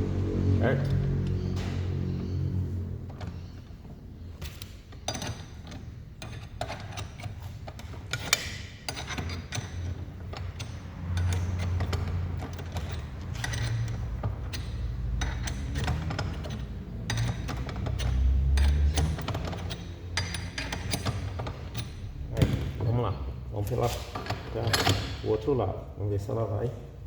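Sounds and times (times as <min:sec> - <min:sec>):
hand press metallic clicks and knocks: 0:03.0 - 0:25.2.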